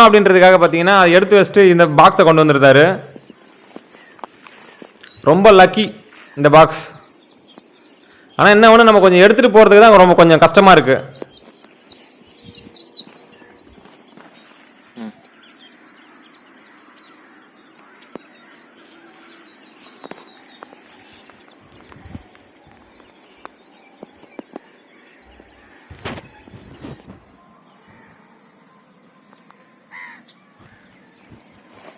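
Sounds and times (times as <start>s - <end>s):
small birds chirping: 2.9s - 31.9s.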